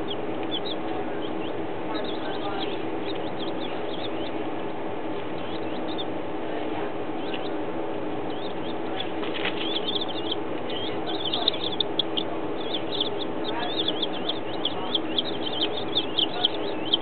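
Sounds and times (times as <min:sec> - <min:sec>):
baby chicks peeping: 0:00.0 - 0:17.0
steady background hum: 0:00.0 - 0:17.0.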